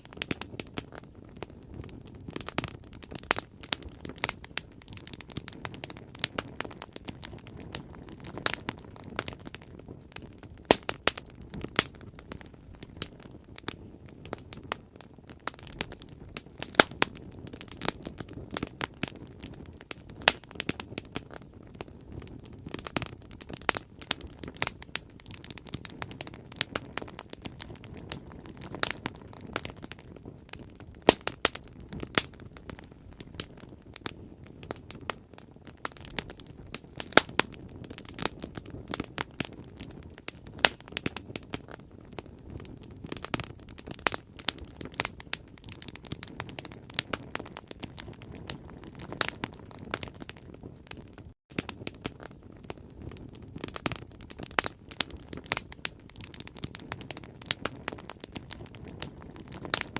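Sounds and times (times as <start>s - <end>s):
bonfire crackling and popping: 0.0s - 59.9s
low rush of flames: 0.0s - 59.9s.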